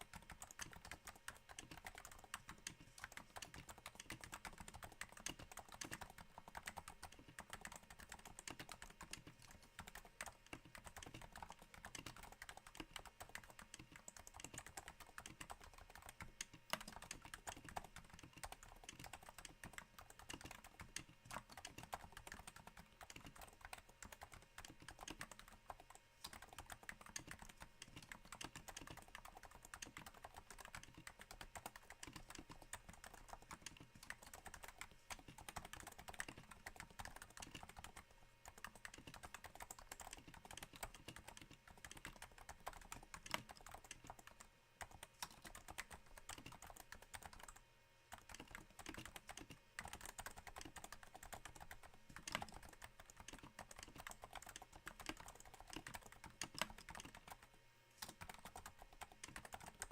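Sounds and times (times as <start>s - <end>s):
soft keyboard typing: 0.0s - 59.9s.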